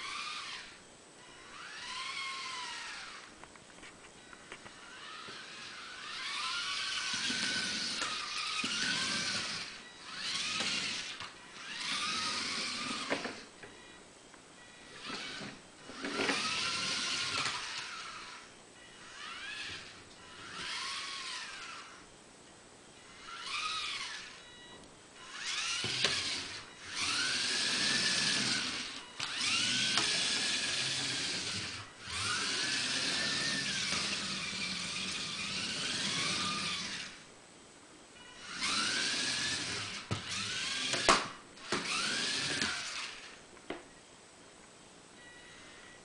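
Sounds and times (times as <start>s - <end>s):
small motors whining: 0.0s - 3.3s, 4.2s - 14.0s, 14.6s - 22.1s, 23.0s - 37.3s, 38.2s - 43.4s.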